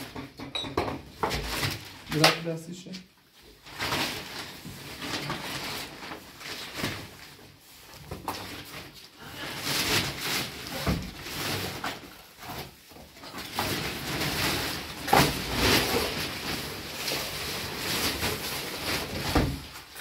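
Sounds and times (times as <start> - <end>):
plastic wrapping rustling: 1.1 - 20.0.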